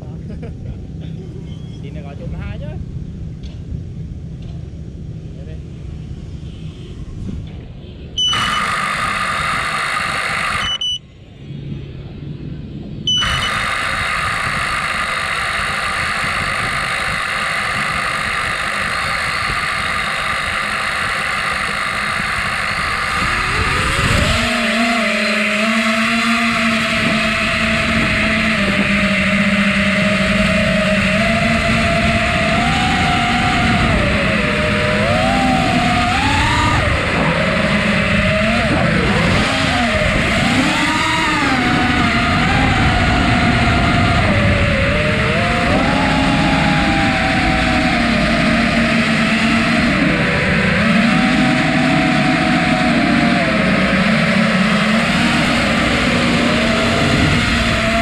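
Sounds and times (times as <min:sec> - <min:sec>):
drone motors whining: 0:00.0 - 0:58.0
drone propellers whirring: 0:00.0 - 0:58.0.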